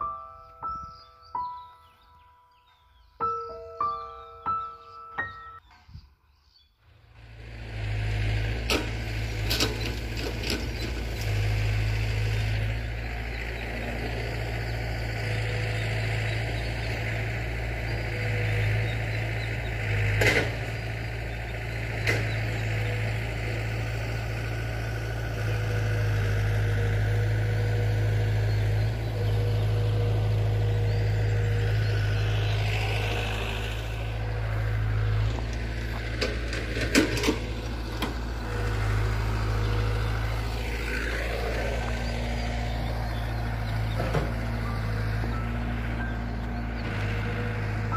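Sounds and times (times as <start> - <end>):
diesel engine droning: 6.8 - 47.9.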